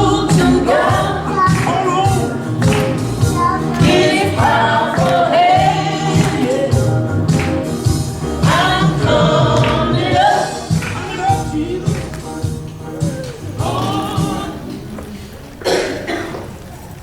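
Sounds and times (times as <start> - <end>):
choir singing gospel: 0.0 - 17.0
instrumental backing with percussion: 0.3 - 14.8.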